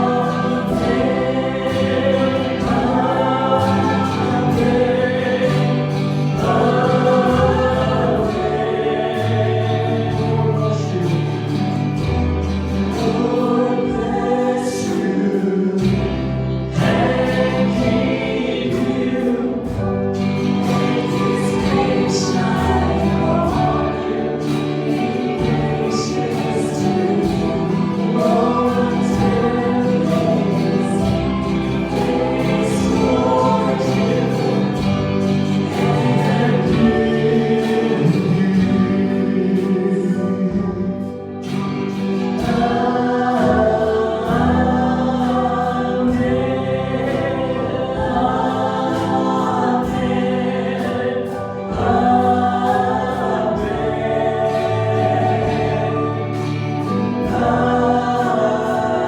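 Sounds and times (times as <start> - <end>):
group singing gospel song: 0.0 - 59.0
instrumental accompaniment: 0.0 - 59.0
sustained bass line: 0.0 - 59.0.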